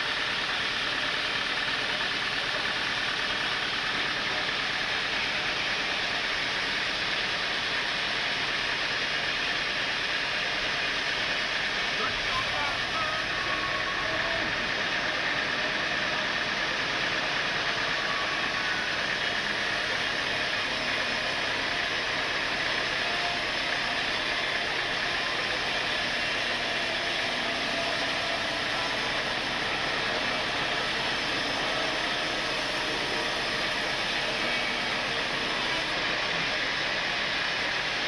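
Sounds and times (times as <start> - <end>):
sawmill machinery running: 0.0 - 38.0.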